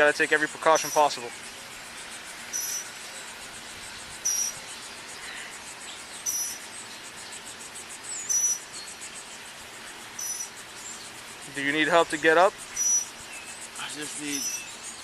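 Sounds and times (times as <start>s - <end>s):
high pulsing insect buzz: 0.0s - 15.0s
insect chirps: 0.0s - 15.0s.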